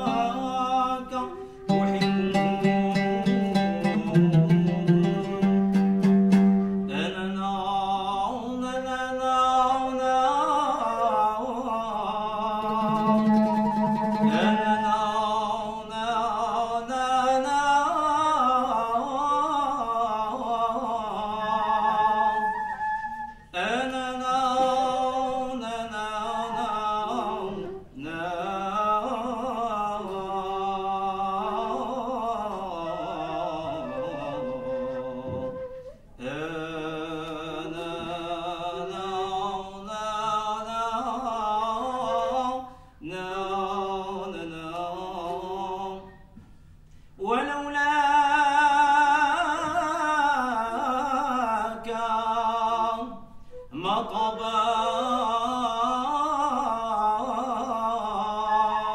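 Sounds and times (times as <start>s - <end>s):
man singing ornamented melody: 0.0s - 46.4s, 47.2s - 58.9s.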